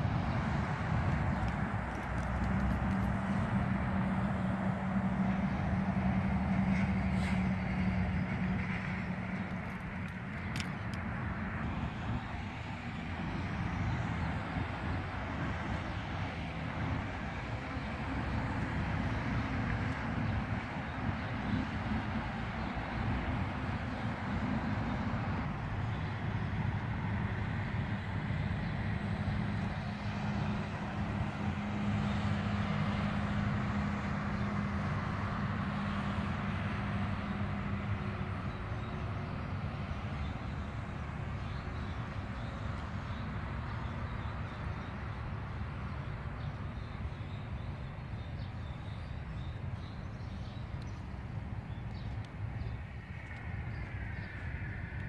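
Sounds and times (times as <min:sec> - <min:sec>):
vehicle rumble with hiss: 0:00.0 - 0:55.0.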